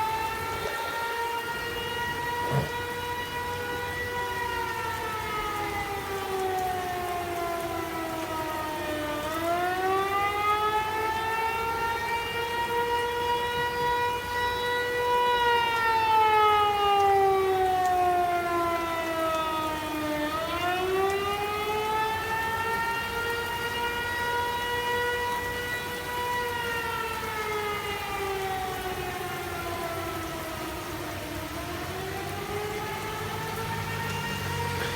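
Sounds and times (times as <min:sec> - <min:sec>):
tornado warning siren wailing: 0:00.0 - 0:34.9.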